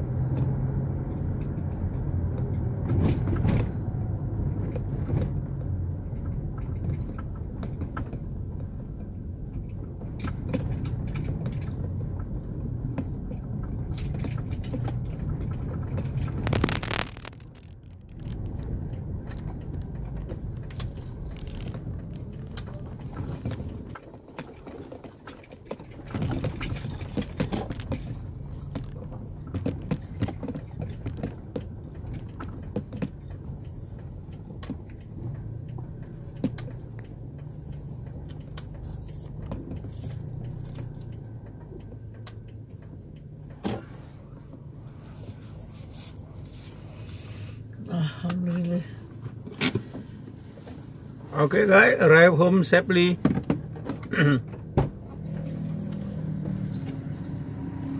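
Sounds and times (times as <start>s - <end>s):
car engine and tyre rumble: 0.0s - 57.9s.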